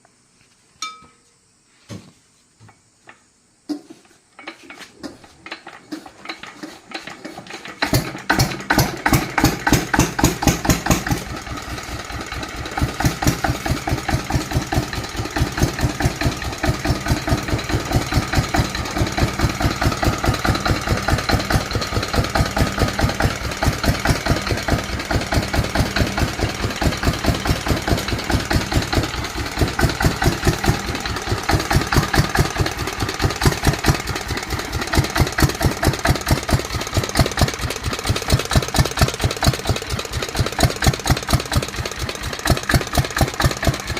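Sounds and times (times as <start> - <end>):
single-cylinder engine running: 4.4 - 43.9.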